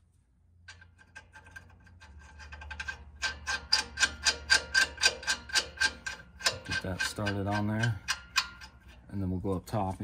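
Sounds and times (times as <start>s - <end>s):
ratchet wrench clicking: 0.7s - 9.0s.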